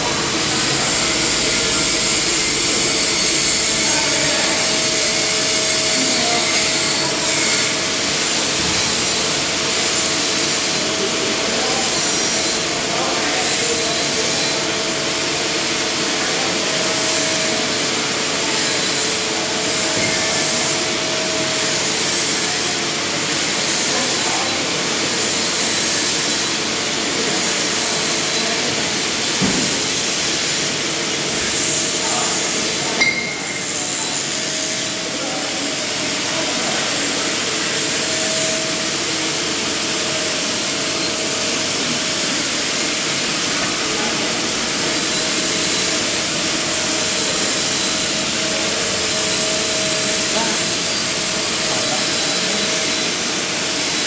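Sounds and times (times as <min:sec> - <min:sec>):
welding torch hissing: 0:00.0 - 0:54.0.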